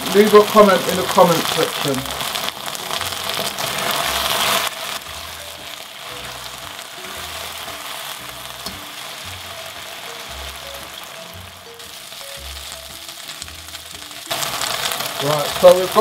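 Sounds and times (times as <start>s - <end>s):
beef sizzling in a wok: 0.0s - 16.0s.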